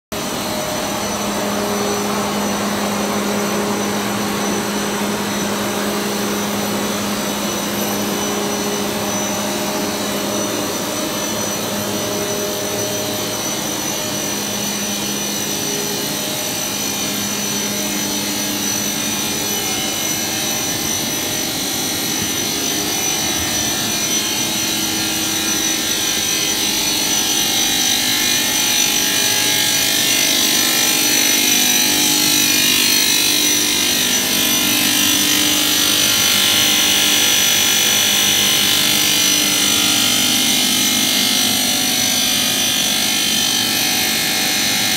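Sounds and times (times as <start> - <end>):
machine drone with high whine: 0.2 - 44.9.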